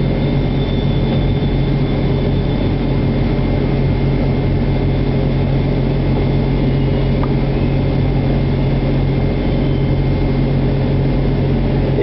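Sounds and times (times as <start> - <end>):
steady machine drone: 0.0 - 12.0.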